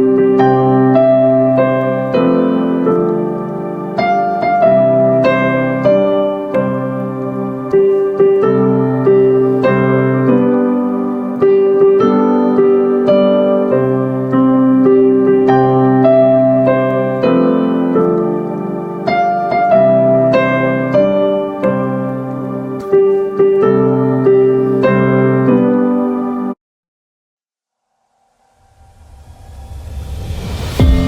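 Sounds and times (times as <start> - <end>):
piano chords and melody: 0.0 - 26.6, 28.6 - 31.0.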